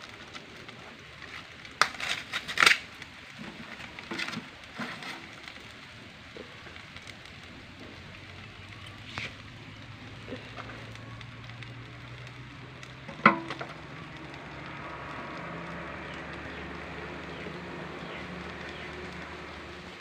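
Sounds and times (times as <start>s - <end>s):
fire hissing: 0.0s - 20.0s.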